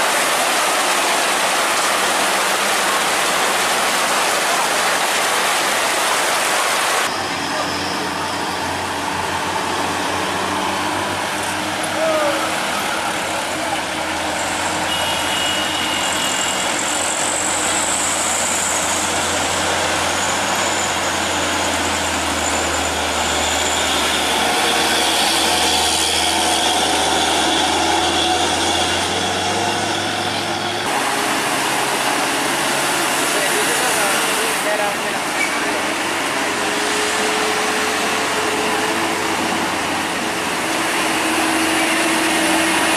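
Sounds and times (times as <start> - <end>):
road noise: 0.0 - 42.9
heavy truck engine passing: 6.5 - 42.9.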